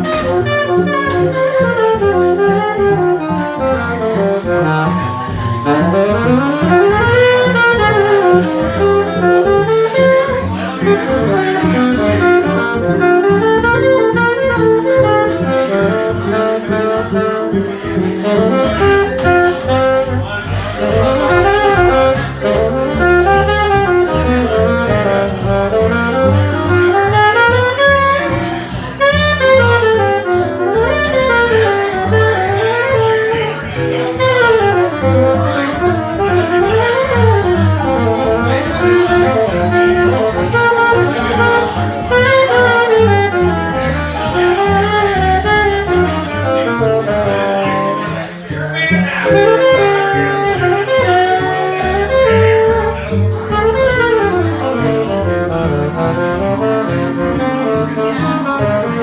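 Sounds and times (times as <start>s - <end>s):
jazz group playing: 0.0s - 59.0s
saxophone soloing: 0.0s - 59.0s
walking bass line: 0.0s - 59.0s.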